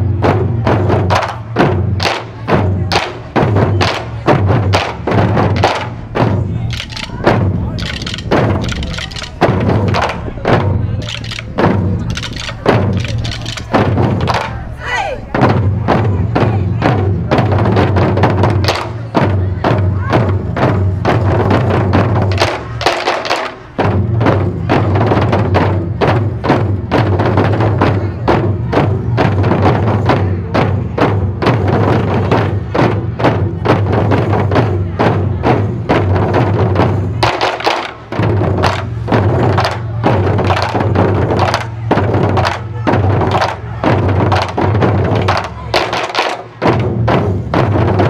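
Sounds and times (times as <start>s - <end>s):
music with heavy drum beats: 0.0s - 48.0s.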